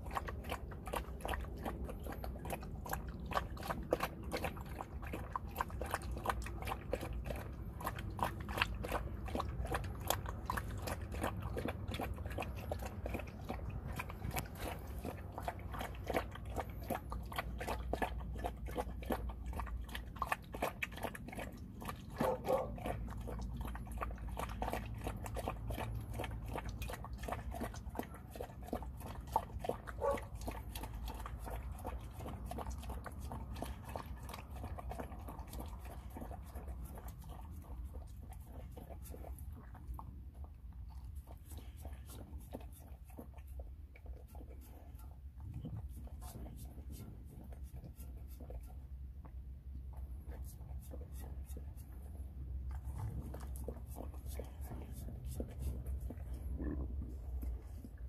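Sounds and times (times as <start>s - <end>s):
dog licking and chewing food: 0.0s - 58.0s.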